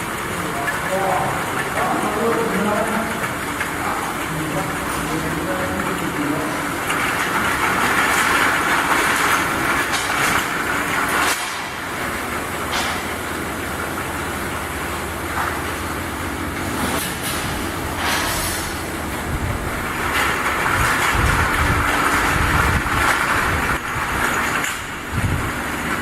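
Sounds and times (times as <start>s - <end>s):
bottle washing machine clatter: 0.0s - 26.0s.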